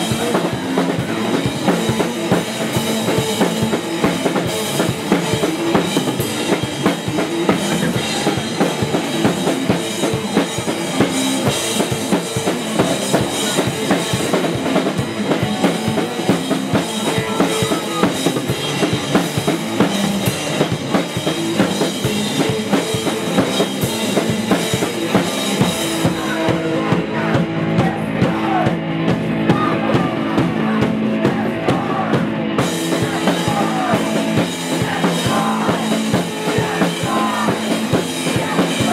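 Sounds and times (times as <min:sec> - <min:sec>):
bass drum and snare: 0:00.0 - 0:38.9
electric guitar: 0:00.0 - 0:38.9
rock band playing: 0:00.0 - 0:38.9.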